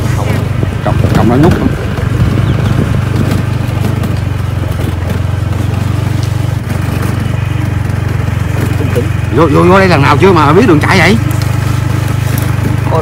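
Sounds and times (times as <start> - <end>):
motorbike engine droning: 0.0 - 13.0.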